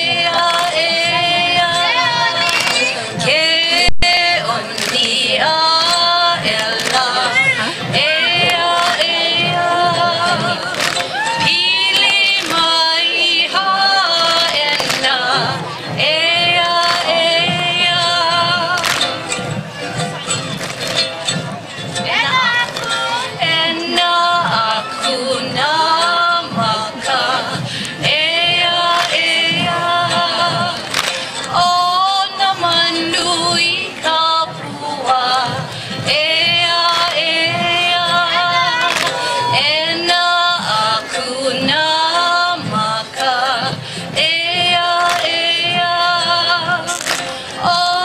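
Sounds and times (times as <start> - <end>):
group singing in unison: 0.0 - 19.3, 22.0 - 48.0.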